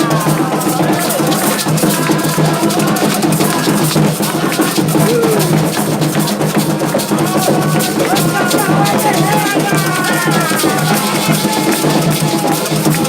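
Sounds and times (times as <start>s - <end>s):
hand drums: 0.0s - 13.0s
voices singing: 0.0s - 13.0s.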